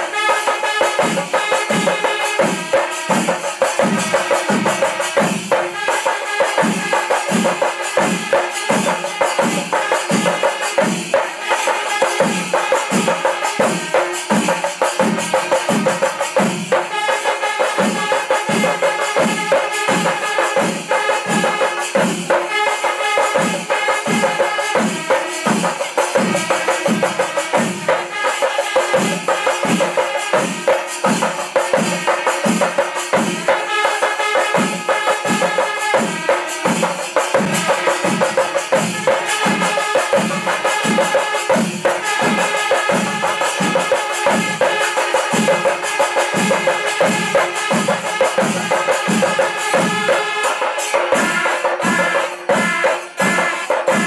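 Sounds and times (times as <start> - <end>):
drums beating steady rhythm: 0.0 - 54.0
wind instruments holding tones: 0.0 - 54.0
cymbals jingling: 0.1 - 52.8.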